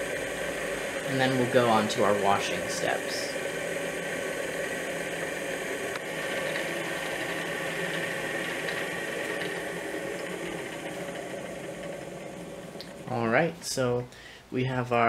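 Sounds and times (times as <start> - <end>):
stirrer motor hum with whine: 0.0 - 13.7.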